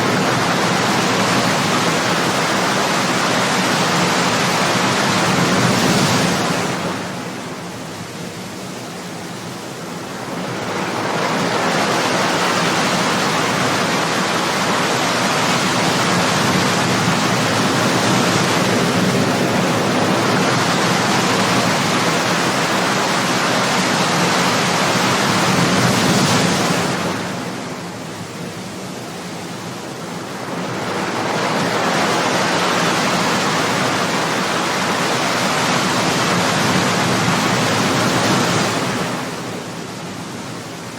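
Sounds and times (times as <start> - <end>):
ocean waves on shore: 0.0 - 40.9.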